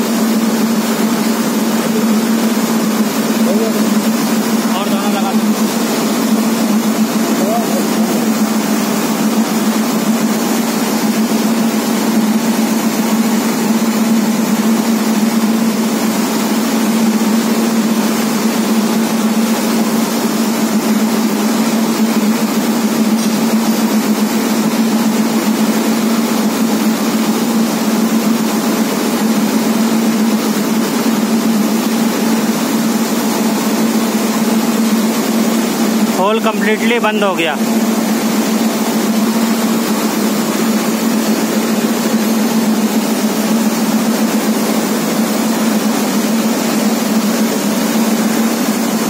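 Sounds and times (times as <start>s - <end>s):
machine humming with hiss: 0.0s - 49.0s.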